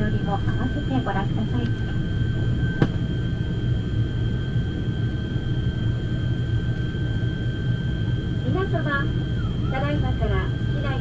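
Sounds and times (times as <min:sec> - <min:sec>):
high engine whine: 0:00.0 - 0:11.0
propeller engine drone: 0:00.0 - 0:11.0.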